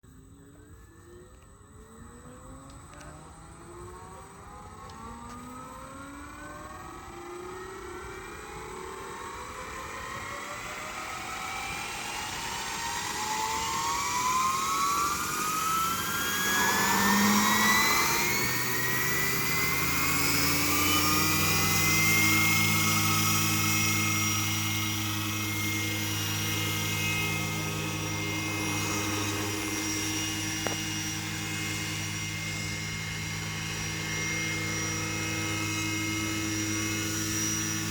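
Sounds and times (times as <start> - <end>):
model helicopter whine: 0.0 - 37.9.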